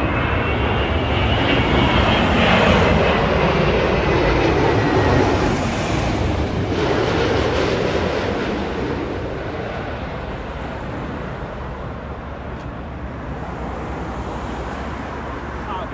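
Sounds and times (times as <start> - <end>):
jet airliner rumble: 0.0 - 15.9.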